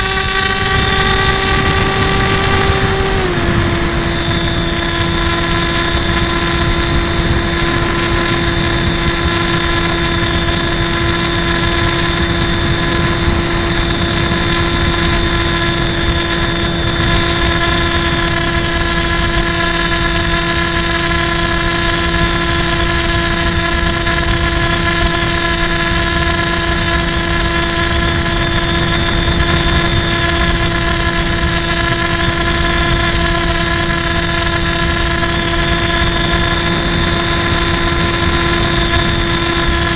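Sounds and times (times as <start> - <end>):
model plane motor whine: 0.0 - 39.9
wind rush on microphone: 0.0 - 39.9.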